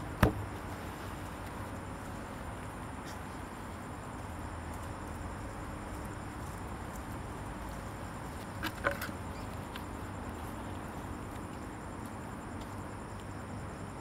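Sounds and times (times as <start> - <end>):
pulsing insect chirr: 0.0 - 14.0
steady hiss: 0.0 - 14.0.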